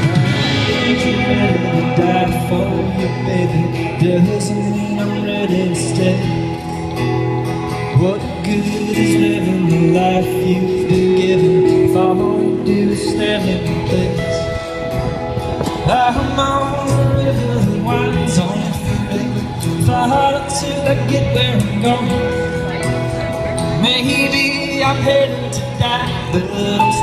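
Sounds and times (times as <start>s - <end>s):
live folk-rock band: 0.0s - 27.0s.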